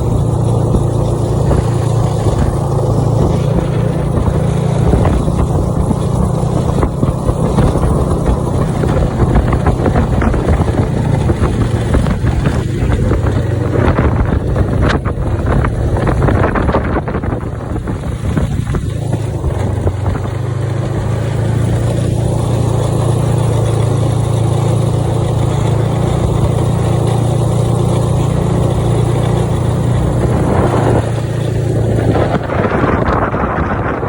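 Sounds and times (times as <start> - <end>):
snowmobile engine running: 0.0 - 34.0.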